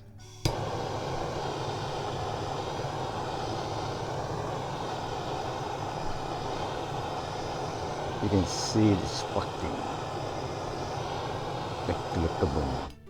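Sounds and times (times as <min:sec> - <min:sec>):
torch flame hissing: 0:00.0 - 0:13.0
torch igniter click: 0:00.4 - 0:13.0.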